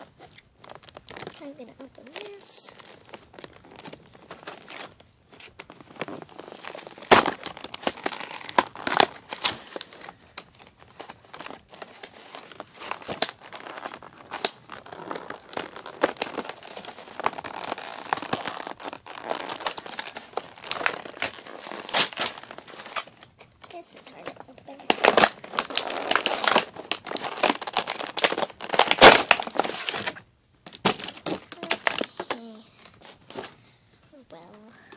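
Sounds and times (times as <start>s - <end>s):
plastic crackling and ripping: 0.0s - 34.9s
plastic packaging crinkling: 0.0s - 34.9s.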